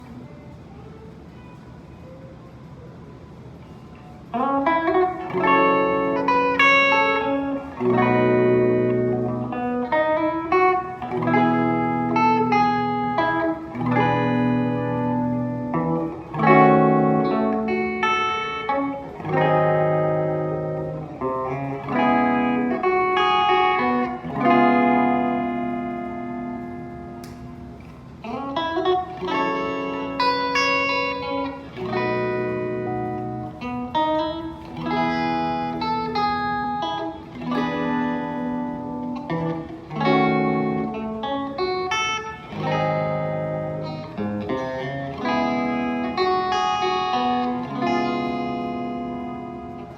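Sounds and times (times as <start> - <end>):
clean electric guitar chords: 4.2 - 49.9.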